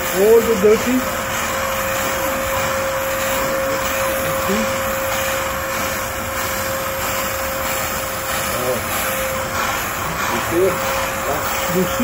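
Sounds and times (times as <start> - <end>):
steam cleaner whine: 0.0 - 12.0
steam hissing: 0.0 - 12.0.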